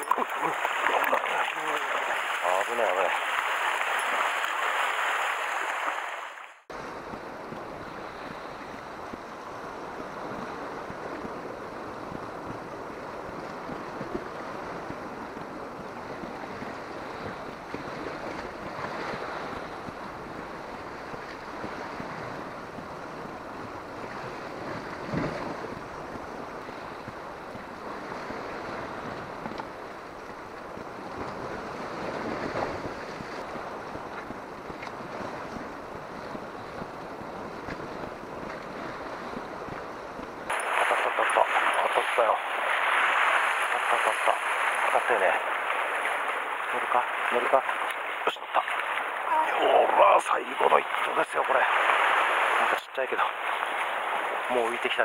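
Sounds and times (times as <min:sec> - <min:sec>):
wind on microphone: 0:00.0 - 0:49.9
surf on rocky shore: 0:00.0 - 0:55.0.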